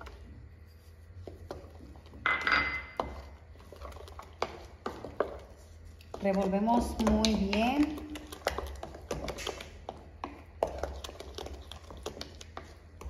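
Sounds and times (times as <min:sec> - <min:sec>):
spoon scraping batter in bowl: 0:00.0 - 0:02.2, 0:02.9 - 0:13.0.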